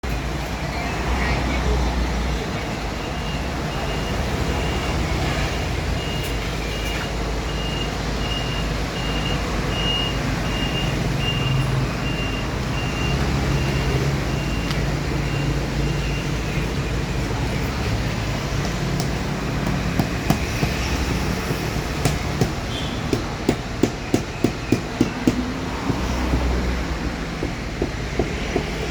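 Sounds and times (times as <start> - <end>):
vehicle and machinery noise: 0.0 - 28.9.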